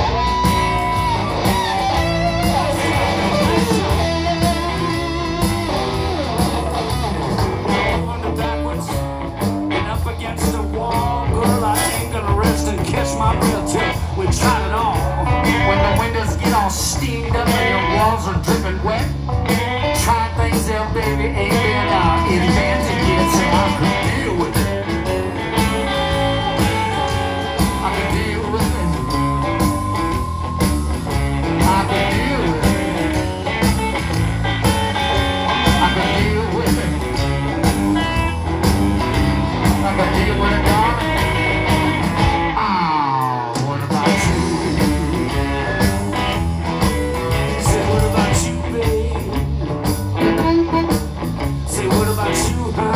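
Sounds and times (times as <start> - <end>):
blues band playing: 0.0 - 52.9.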